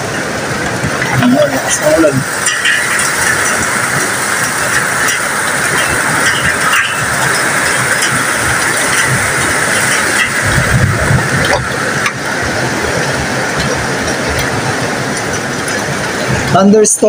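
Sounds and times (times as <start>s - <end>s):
low rumble: 0.0s - 16.6s
heavy rain pouring: 0.0s - 17.0s.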